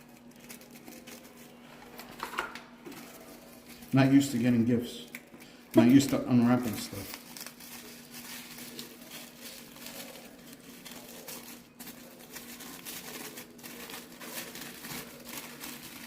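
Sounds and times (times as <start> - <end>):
wrapping crinkling and rustling: 0.0 - 16.0.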